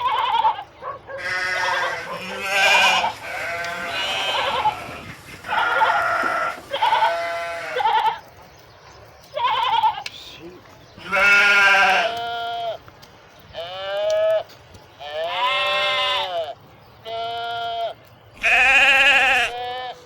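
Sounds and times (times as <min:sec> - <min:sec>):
sheep bleating: 0:00.0 - 0:08.2, 0:09.4 - 0:10.1, 0:11.0 - 0:12.8, 0:13.6 - 0:20.0.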